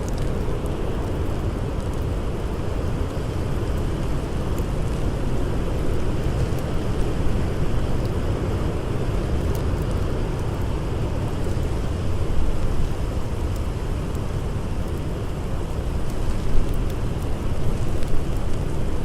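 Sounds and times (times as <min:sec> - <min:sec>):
faint campfire crackles: 0:00.0 - 0:19.0.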